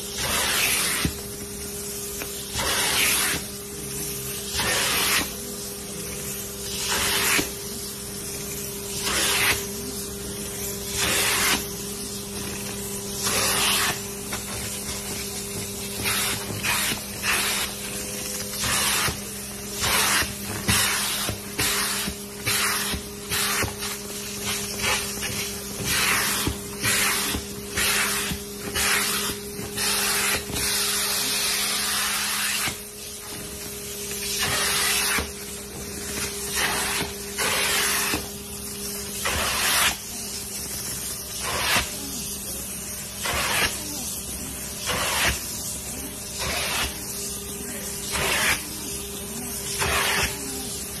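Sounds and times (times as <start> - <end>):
cleaning machine motor hum: 0.0 - 51.0
spray and suction hiss: 0.0 - 51.0.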